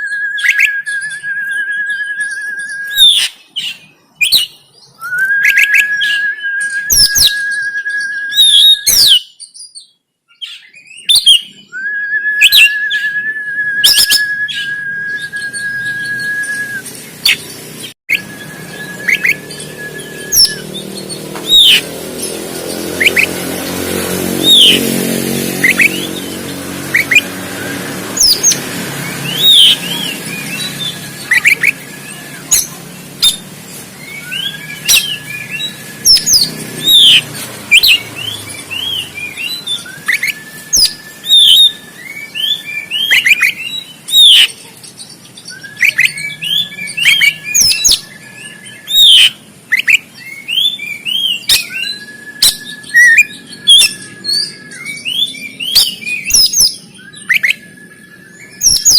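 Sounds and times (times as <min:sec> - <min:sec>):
long level bird whistle: 0:00.0 - 0:21.9, 0:23.0 - 0:23.3, 0:25.4 - 0:33.4, 0:34.0 - 0:58.9
bird singing chirps and whistles: 0:00.0 - 0:58.9.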